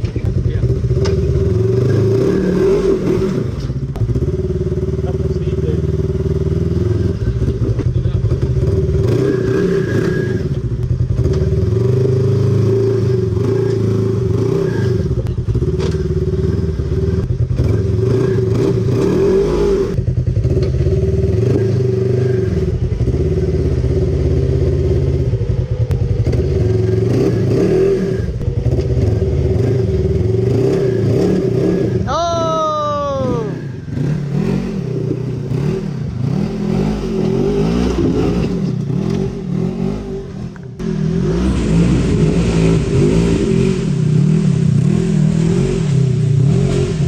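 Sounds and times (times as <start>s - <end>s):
off-road vehicle engine revving: 0.0s - 47.0s.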